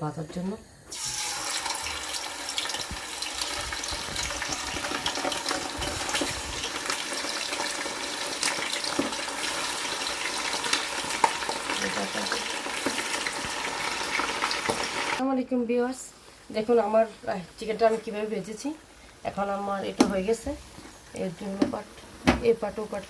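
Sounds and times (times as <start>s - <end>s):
chicken deep-frying in oil: 0.9s - 23.0s.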